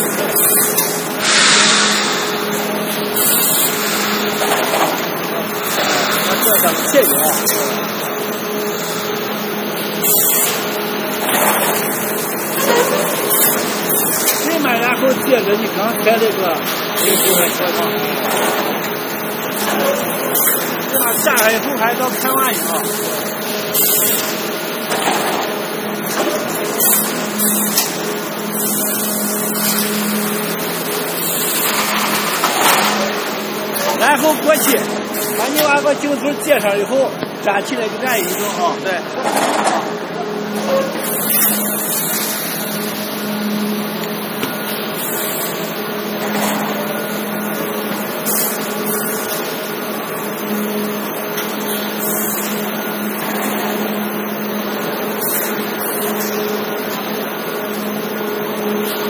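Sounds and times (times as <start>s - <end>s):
machinery humming: 0.0s - 59.0s.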